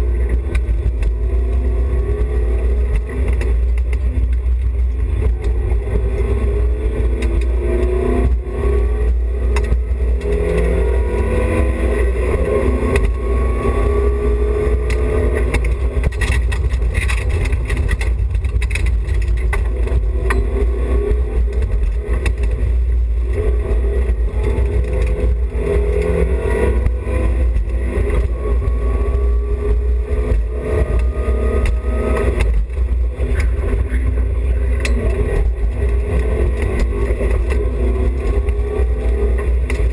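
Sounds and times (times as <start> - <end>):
rally car engine revving hard: 0.0 - 39.9.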